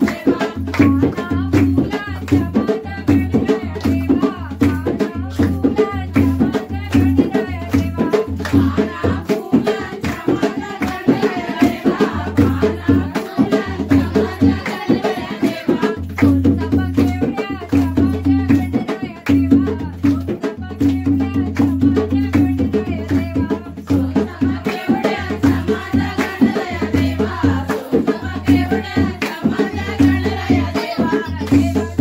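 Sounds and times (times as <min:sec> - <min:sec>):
hands clapping in rhythm: 0:00.0 - 0:32.0
women singing folk song: 0:00.0 - 0:32.0.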